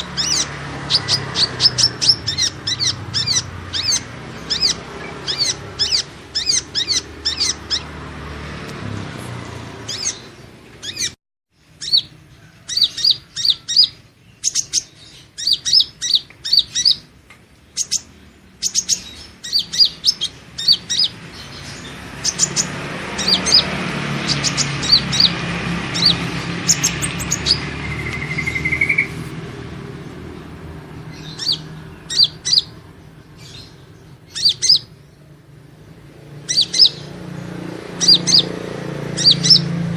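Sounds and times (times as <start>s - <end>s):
high thin bird chirps: 0.0s - 7.9s, 9.9s - 29.3s, 31.1s - 32.8s, 33.4s - 35.0s, 36.4s - 37.1s, 38.0s - 38.5s, 39.1s - 39.7s.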